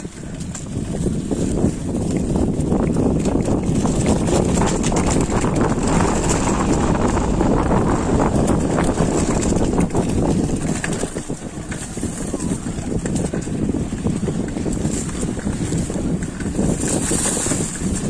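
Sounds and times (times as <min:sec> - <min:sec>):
bike rolling over dirt trail: 0:00.0 - 0:18.0
wind buffeting microphone: 0:00.0 - 0:18.0.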